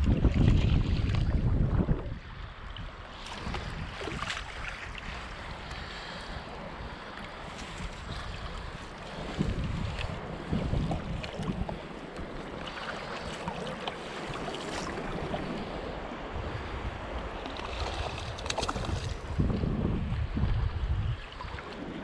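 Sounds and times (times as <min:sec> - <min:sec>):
sea waves splashing: 0:00.0 - 0:22.0
wind gusting on microphone: 0:00.0 - 0:22.0.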